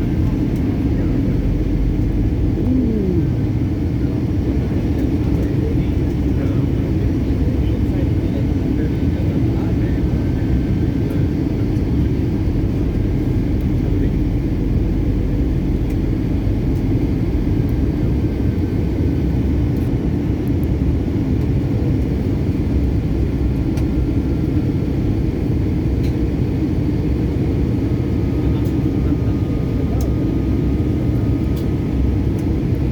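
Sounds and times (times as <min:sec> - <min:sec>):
airliner cabin engine rumble: 0:00.0 - 0:32.9.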